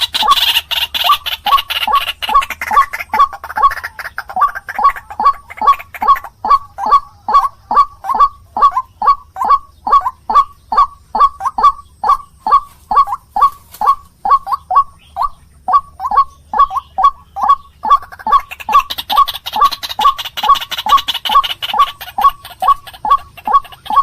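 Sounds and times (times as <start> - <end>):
waterhen calling harsh notes: 0.0 - 24.0.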